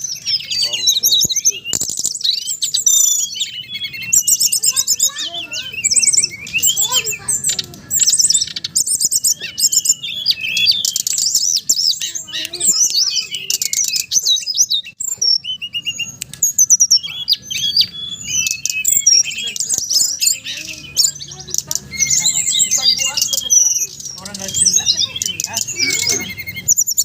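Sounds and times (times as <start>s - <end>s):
bird chirping and trilling: 0.0s - 27.0s.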